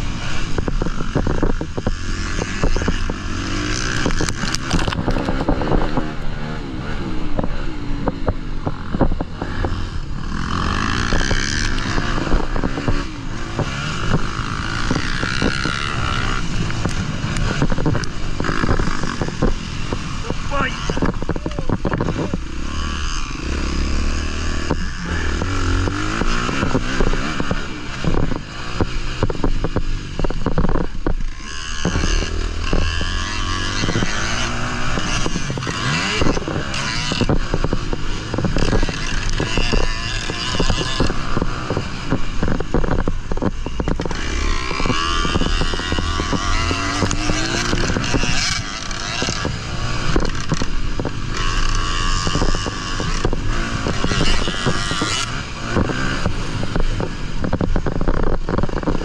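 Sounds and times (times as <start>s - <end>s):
motocross bike engine revving: 0.0s - 59.0s
wind rushing over microphone: 0.0s - 59.0s.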